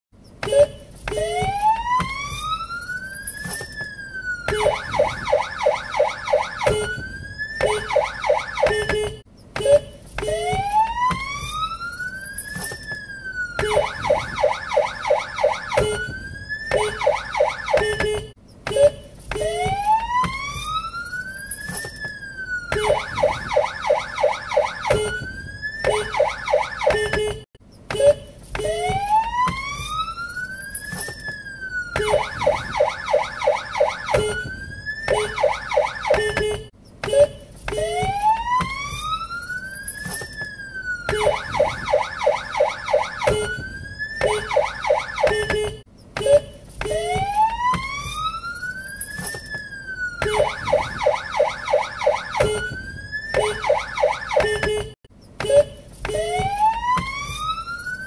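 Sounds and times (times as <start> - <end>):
police siren wail and yelp: 0.6 - 27.4, 28.0 - 58.0.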